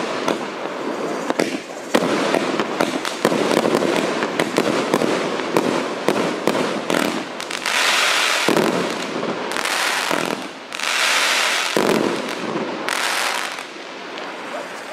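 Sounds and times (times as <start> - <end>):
firework rapid pops: 0.0 - 14.3
firework crackle bursts: 0.0 - 14.9.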